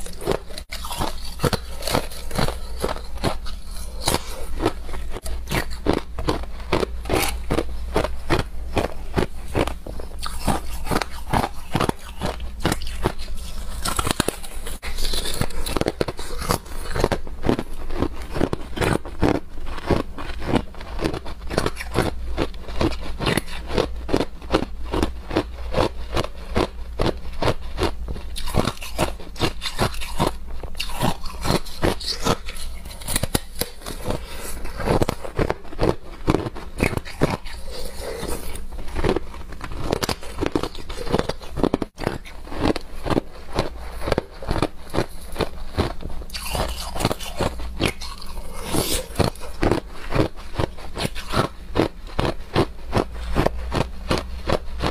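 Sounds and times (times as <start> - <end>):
ice crunching between teeth: 0.0 - 54.9.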